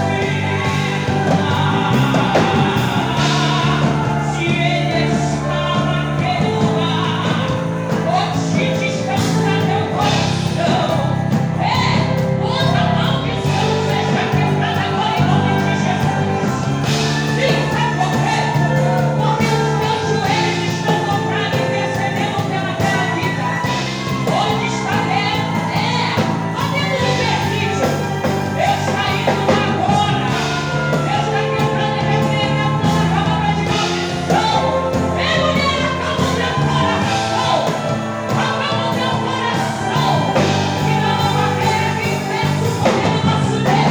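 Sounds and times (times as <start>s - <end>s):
person singing a hymn: 0.0s - 43.9s
steady bass notes: 0.0s - 43.9s.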